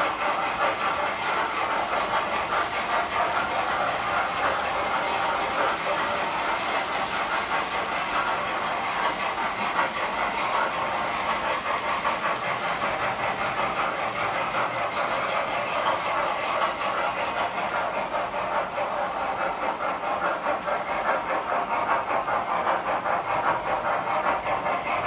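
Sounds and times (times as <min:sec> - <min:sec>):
model trains clattering on track: 0:00.0 - 0:25.0.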